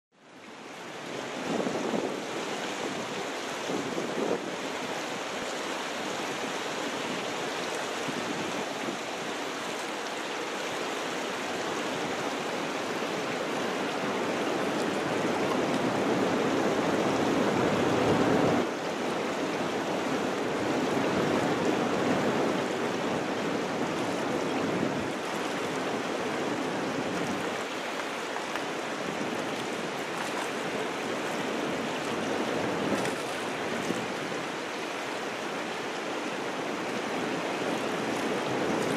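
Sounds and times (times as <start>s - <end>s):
water rushing: 0.1s - 38.9s
wind: 0.1s - 38.9s.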